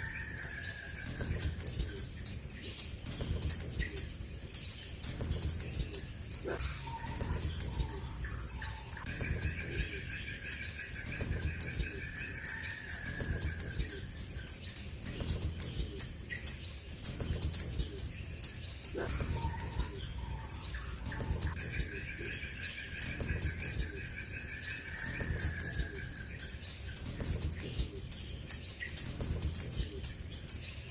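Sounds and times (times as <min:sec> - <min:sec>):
bird calling rapid high chips: 0:00.0 - 0:30.9.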